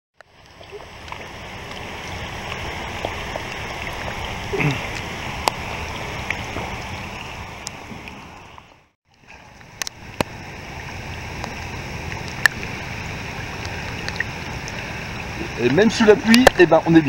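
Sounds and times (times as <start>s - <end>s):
low burble of water: 0.2s - 17.0s
rain falling on water: 0.2s - 17.0s.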